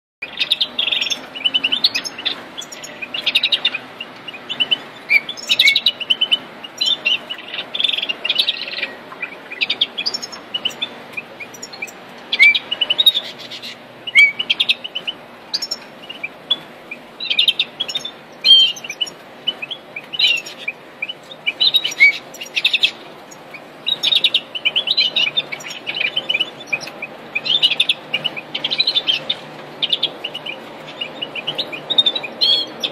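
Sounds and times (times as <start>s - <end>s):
goldfinches chirping: 0.2s - 32.9s.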